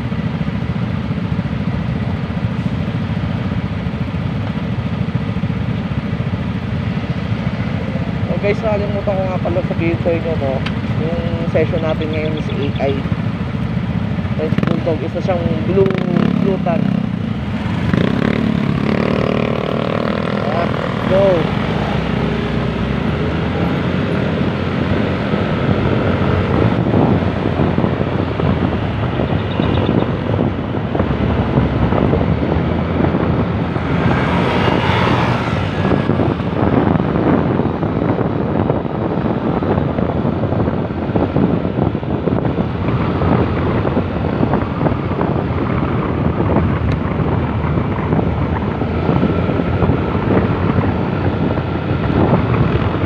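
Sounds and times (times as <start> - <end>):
motorcycle engine and road noise: 0.0 - 53.0
wind rushing over microphone: 0.0 - 53.0.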